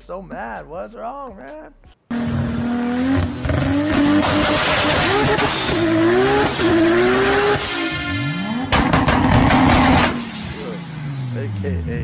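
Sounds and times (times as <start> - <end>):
car engine at high revs: 2.1 - 12.0.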